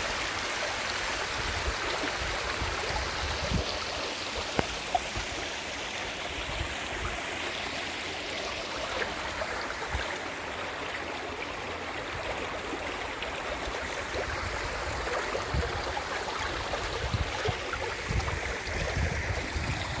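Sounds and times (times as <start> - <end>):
stream trickling and gurgling: 0.0 - 20.0.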